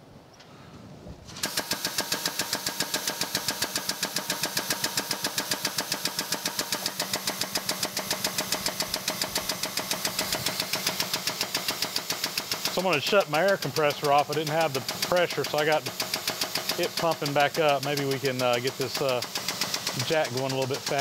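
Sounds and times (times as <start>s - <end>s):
air hydraulic jack pumping: 1.3s - 21.0s.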